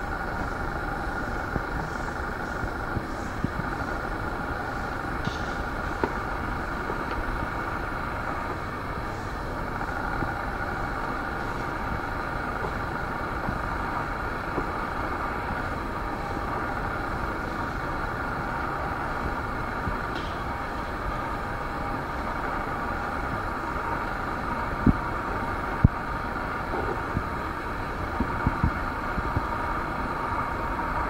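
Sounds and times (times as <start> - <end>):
faint hum: 0.0 - 31.0
outdoor background rumble: 0.0 - 31.0.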